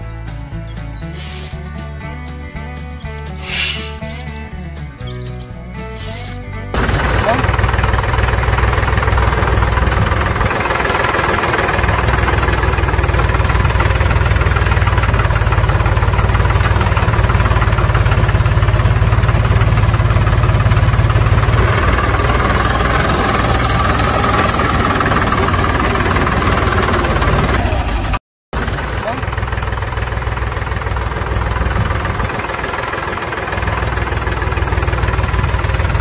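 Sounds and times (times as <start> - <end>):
tractor engine idling: 0.0 - 36.0.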